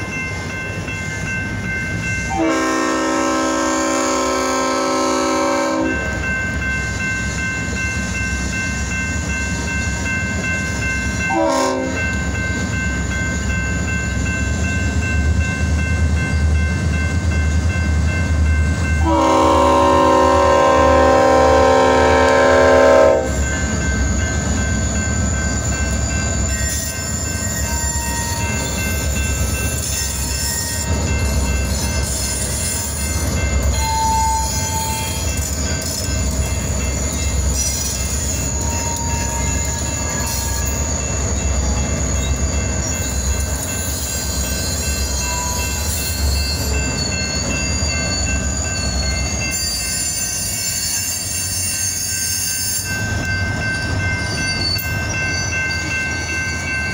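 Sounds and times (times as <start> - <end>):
diesel locomotives rumbling past: 0.0 - 56.9.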